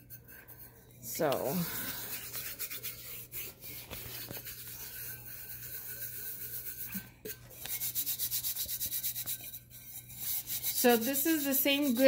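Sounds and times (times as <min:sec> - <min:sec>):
hand rubbing glitter: 0:00.0 - 0:12.0.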